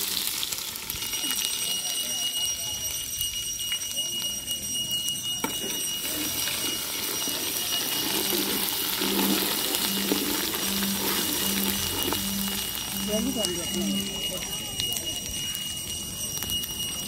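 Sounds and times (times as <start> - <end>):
steady hiss with high tone: 0.0 - 17.0
low repeating beep: 1.1 - 17.0.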